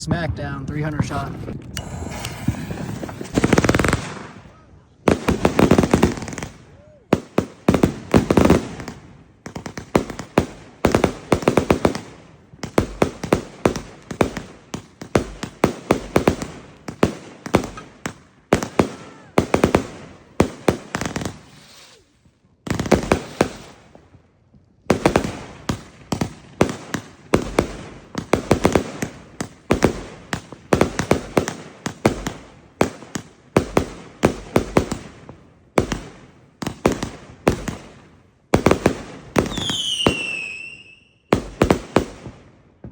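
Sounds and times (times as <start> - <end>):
firework volleys banging: 0.0 - 24.1, 24.9 - 42.2.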